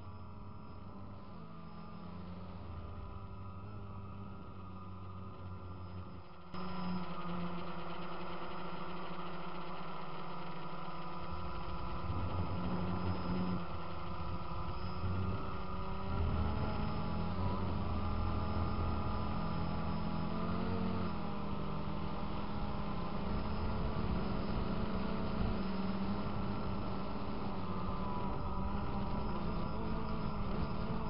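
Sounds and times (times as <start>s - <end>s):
drone propellers humming: 0.0s - 31.0s.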